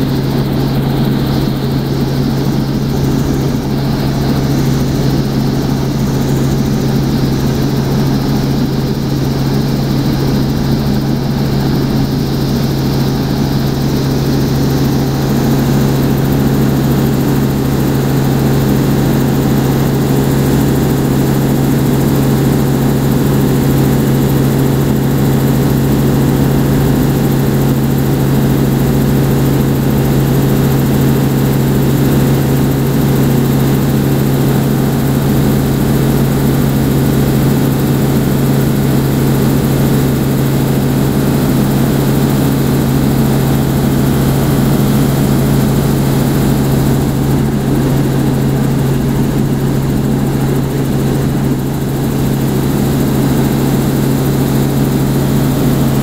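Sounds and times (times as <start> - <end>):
helicopter rotor and engine noise: 0.0 - 56.0.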